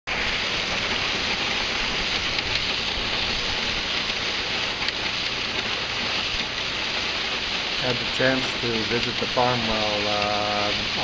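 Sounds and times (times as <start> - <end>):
corn stalks rattling hiss: 0.1 - 11.0.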